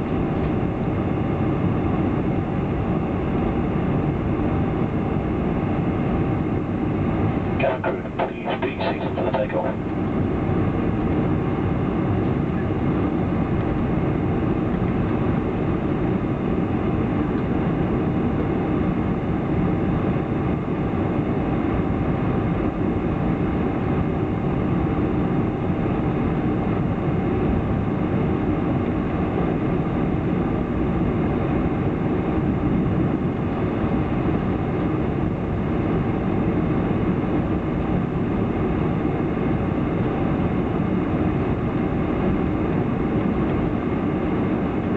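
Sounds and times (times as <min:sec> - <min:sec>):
jet engines at low power: 0:00.0 - 0:44.9.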